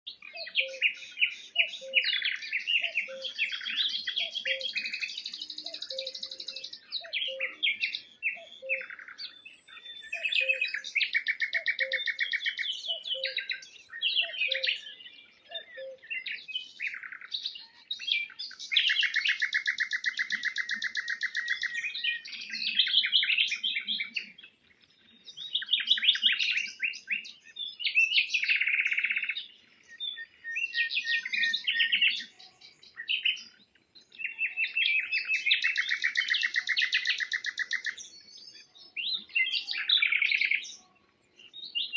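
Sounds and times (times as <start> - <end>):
songbird singing trills: 0.1 - 41.9.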